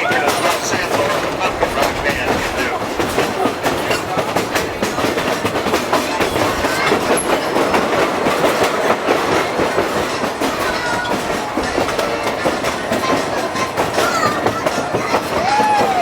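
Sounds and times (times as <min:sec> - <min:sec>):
train rumbling along track: 0:00.0 - 0:16.0
wheels clattering over rail joints: 0:00.0 - 0:16.0.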